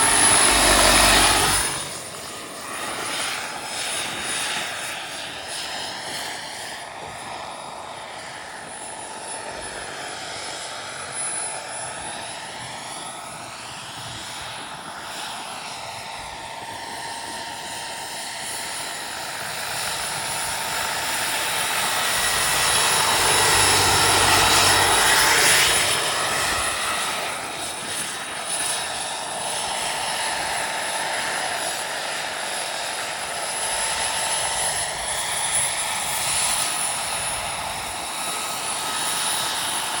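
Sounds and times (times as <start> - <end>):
high turbine whine: 0.0 - 40.0
rushing rotor noise: 0.0 - 40.0.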